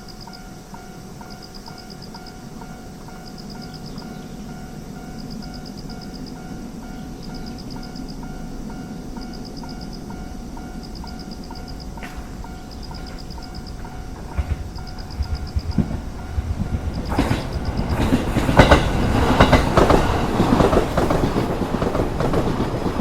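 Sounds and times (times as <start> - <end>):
low rumble of train: 0.0 - 23.0
railroad crossing warning bell: 0.0 - 23.0.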